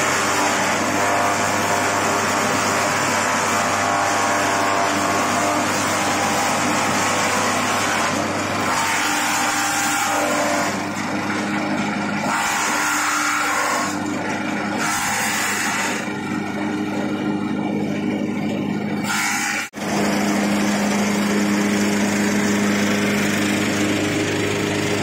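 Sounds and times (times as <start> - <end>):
motor hum: 0.0 - 25.0
shredder rushing grinding noise: 0.0 - 25.0.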